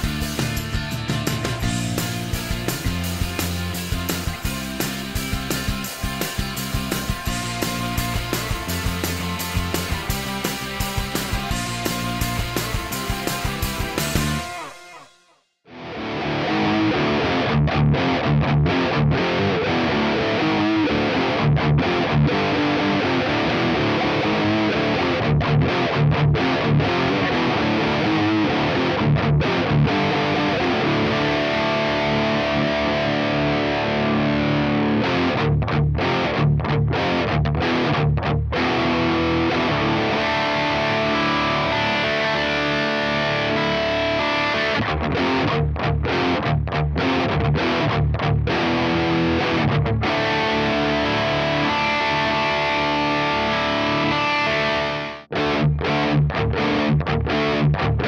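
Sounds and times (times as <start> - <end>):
distorted electric guitar riffs: 0.0 - 58.0.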